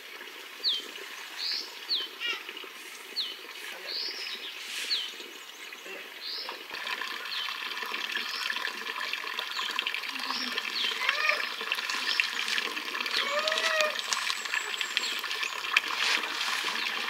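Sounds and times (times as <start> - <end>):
rushing water-like noise: 0.0 - 17.0.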